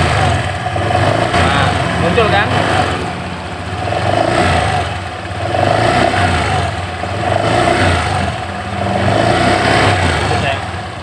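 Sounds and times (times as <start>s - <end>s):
rough growling noise: 0.0s - 10.8s
scooter engine revving: 0.0s - 11.0s.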